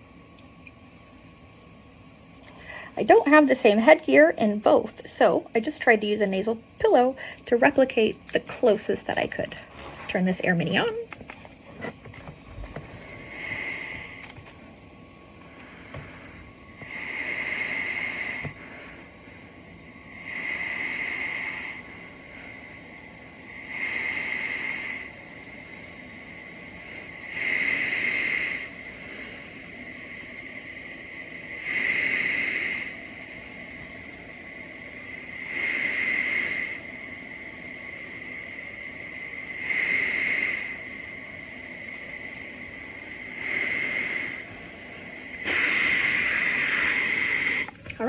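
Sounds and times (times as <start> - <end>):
breathing machine high whine: 0.0 - 48.0
airflow hiss: 2.4 - 48.0.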